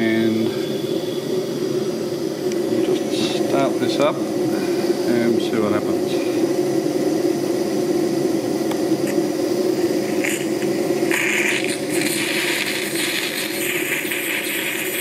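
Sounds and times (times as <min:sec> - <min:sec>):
steady low hum: 0:00.0 - 0:15.0
steam hissing in spurts: 0:00.0 - 0:15.0.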